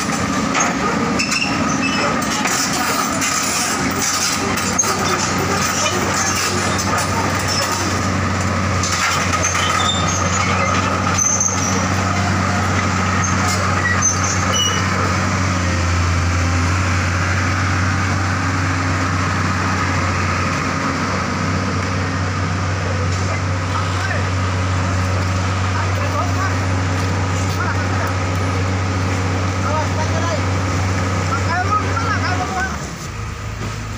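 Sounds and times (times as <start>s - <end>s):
diesel engine running steadily: 0.0s - 33.9s.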